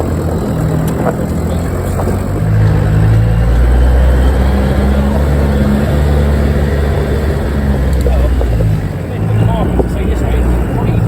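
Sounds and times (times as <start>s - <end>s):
off-road vehicle engine under load: 0.0s - 11.0s.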